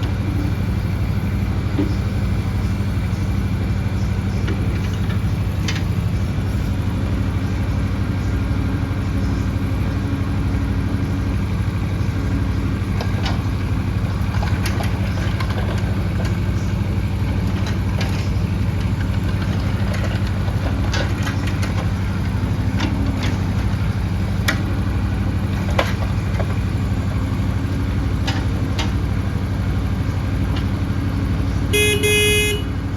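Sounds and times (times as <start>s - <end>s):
mini excavator diesel engine: 0.0s - 32.9s.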